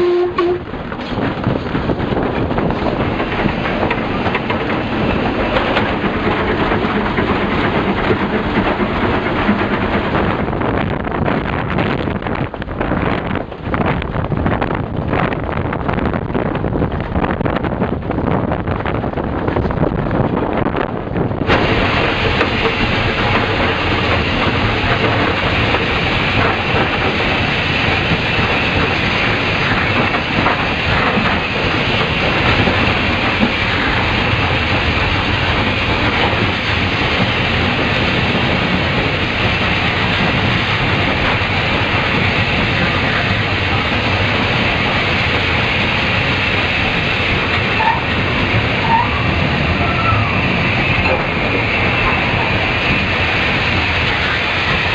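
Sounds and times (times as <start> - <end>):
steam locomotive cab rattling: 0.0 - 54.9
wheels on rails: 0.0 - 54.9.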